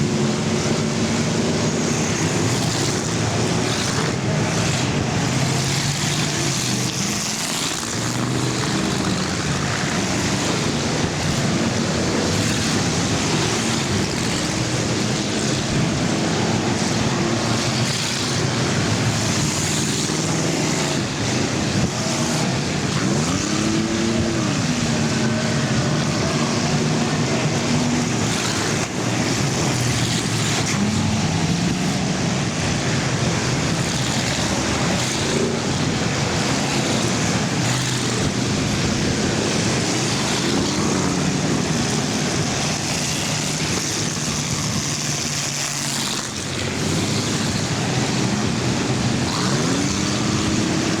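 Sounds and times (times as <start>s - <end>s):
engine revving: 0.0s - 51.0s
race car engines passing: 0.0s - 51.0s.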